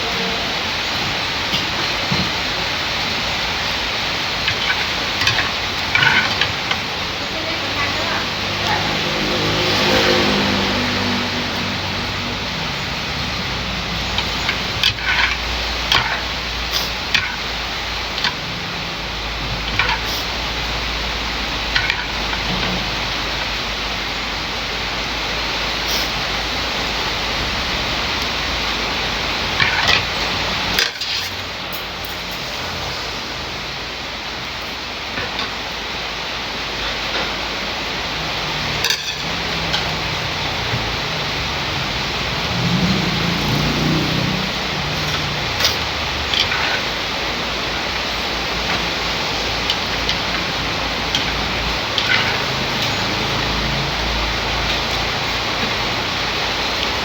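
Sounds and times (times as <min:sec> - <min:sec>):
heavy rain hissing: 0:00.0 - 0:57.0
low engine hum: 0:06.5 - 0:30.8, 0:31.5 - 0:57.0.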